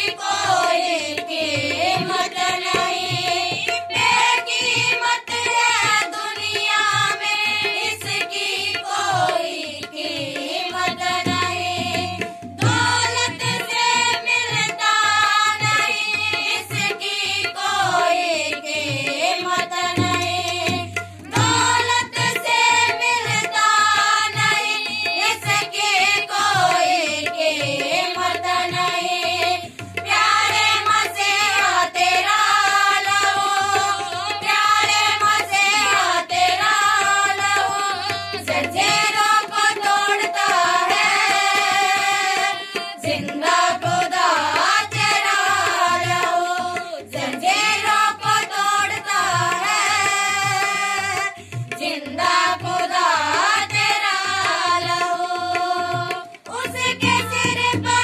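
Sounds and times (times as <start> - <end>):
hand drum rhythm: 0.0 - 58.0
women singing in unison: 0.0 - 58.0.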